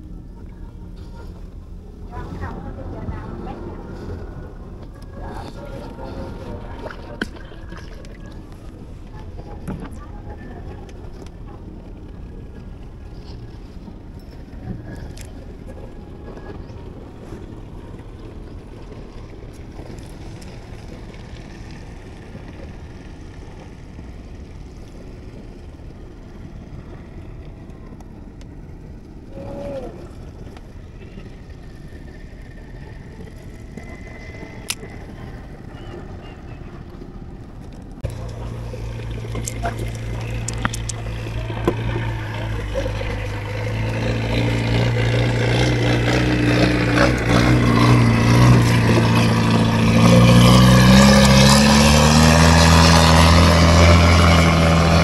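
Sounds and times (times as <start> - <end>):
low rumble over water: 0.0 - 55.0.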